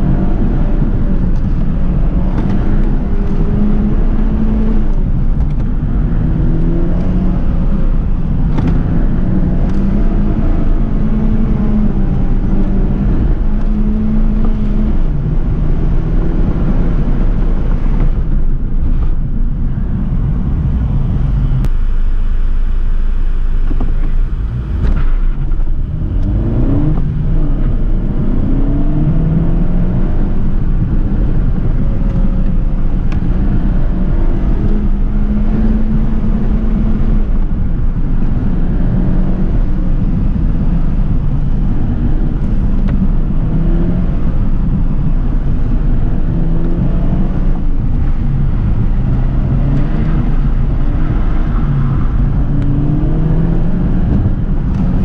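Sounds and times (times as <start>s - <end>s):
car engine revving: 0.0s - 55.0s
road and wind noise: 0.0s - 55.0s.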